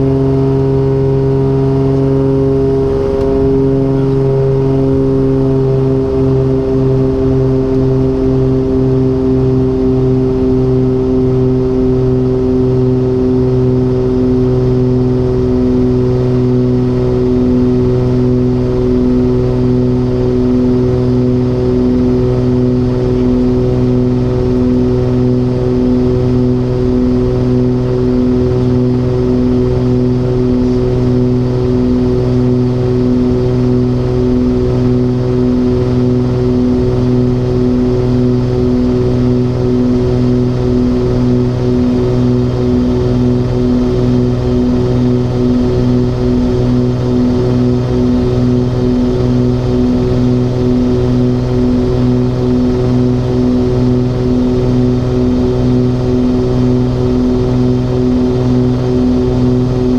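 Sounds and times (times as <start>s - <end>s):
twin propeller engines droning: 0.0s - 59.9s.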